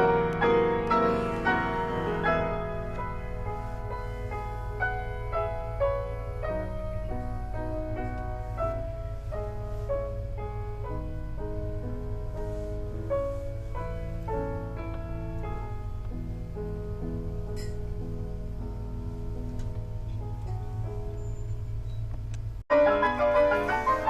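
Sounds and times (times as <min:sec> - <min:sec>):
steady low hum: 0:00.0 - 0:22.6
slow piano melody: 0:00.0 - 0:24.0.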